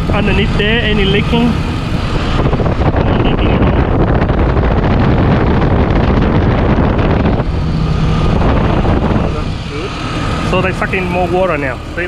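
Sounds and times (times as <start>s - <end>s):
car engine running: 0.0s - 12.0s
wind rushing over microphone: 0.0s - 12.0s.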